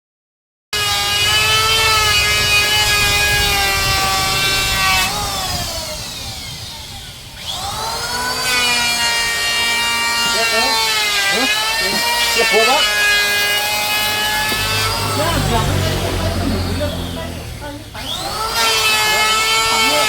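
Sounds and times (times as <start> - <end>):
power tool whining: 0.8 - 20.0.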